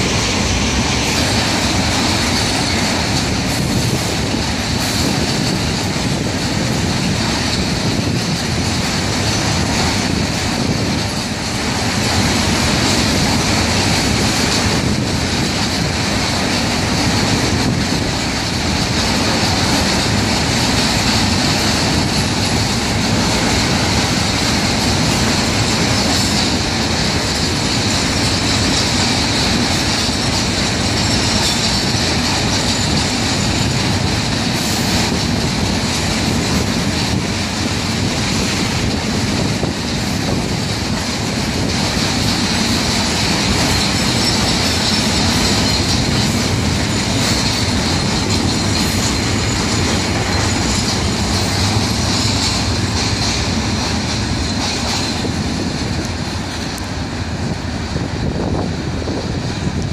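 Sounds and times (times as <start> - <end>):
clatter over rail joints: 0.0 - 59.9
train wheels rumbling on rail: 0.0 - 59.9.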